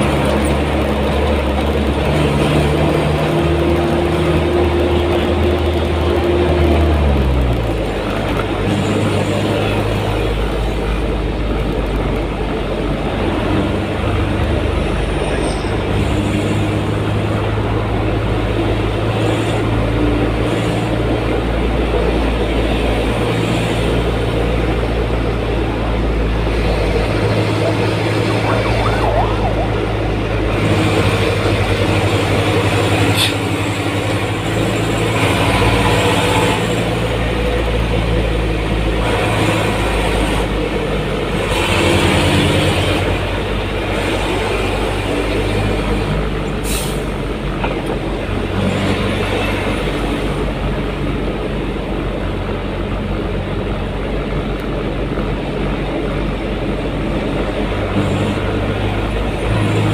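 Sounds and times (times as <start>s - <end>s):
tyre road rumble: 0.0s - 59.9s.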